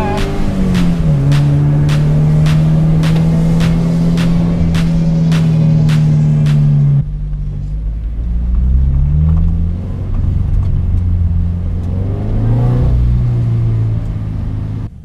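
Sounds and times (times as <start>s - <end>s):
car engine heard from cabin: 0.0s - 15.0s.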